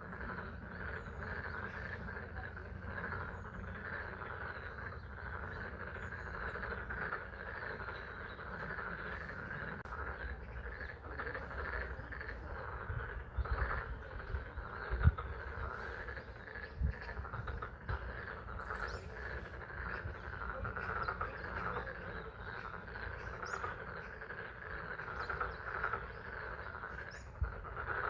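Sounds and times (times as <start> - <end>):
frogs calling: 0.0 - 28.0.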